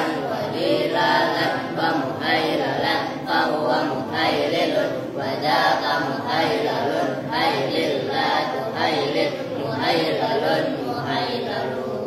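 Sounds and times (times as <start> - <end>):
boys chanting in unison: 0.0 - 12.0.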